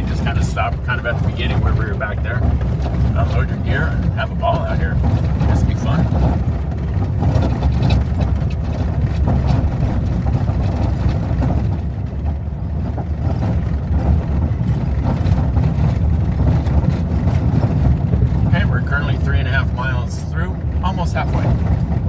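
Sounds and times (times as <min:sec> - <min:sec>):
tyres and engine rumbling: 0:00.0 - 0:22.0.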